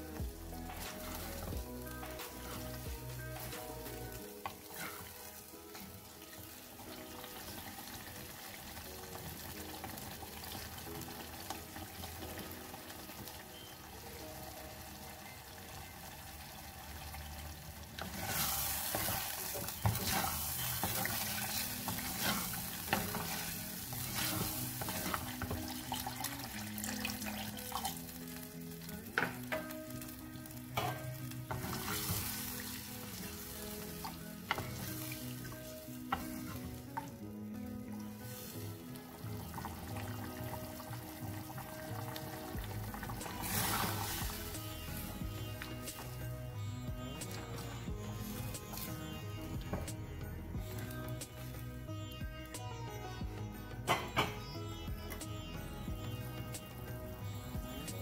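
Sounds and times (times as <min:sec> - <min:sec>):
paste sizzling in a clay pot: 0:00.0 - 0:52.0.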